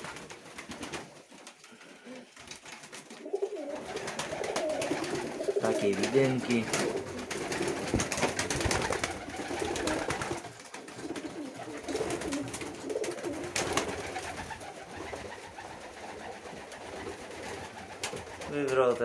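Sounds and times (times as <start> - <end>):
pigeons cooing: 3.1 - 18.5.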